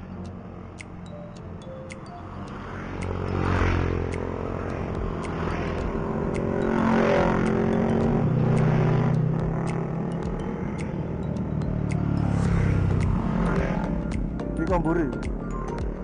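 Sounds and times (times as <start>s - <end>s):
road noise: 0.0s - 16.0s
wind: 0.0s - 16.0s
motorcycle engine running: 3.0s - 16.0s.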